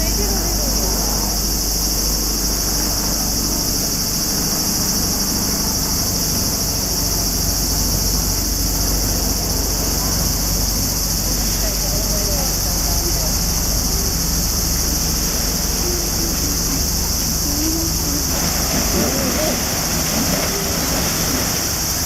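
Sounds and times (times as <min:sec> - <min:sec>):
cicada chorus drone: 0:00.0 - 0:22.0
low steady rumble: 0:00.0 - 0:22.0.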